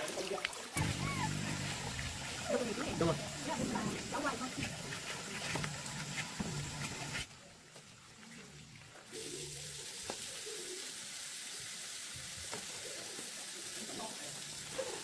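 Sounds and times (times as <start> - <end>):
running water hissing: 0.0 - 7.4, 8.1 - 15.0.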